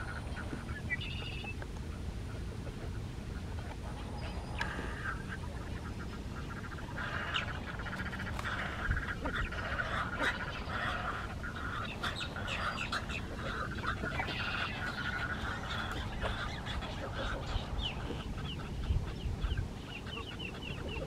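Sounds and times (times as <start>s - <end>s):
rapid rattling animal calls: 0.0s - 21.0s
steady low rumble: 0.0s - 21.0s.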